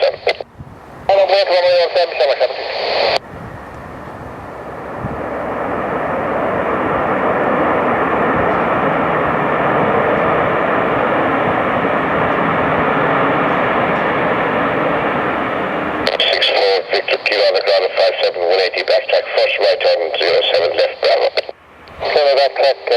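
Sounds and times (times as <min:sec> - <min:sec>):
jet engines passing: 0:00.0 - 0:22.9.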